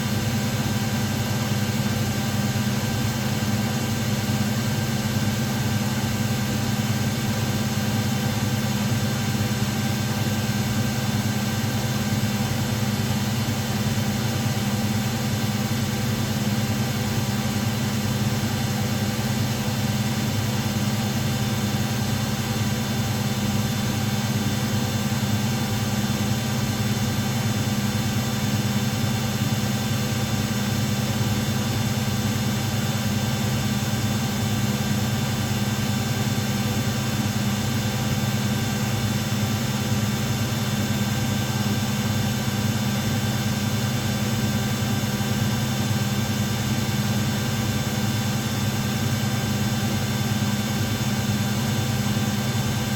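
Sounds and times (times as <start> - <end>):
washing machines humming: 0.0 - 52.9.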